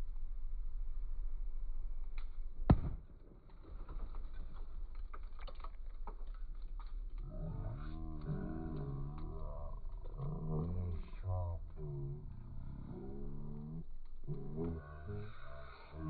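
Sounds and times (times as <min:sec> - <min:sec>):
bonfire crackling: 0:00.0 - 0:16.0
fire popping loudly: 0:02.7 - 0:16.0.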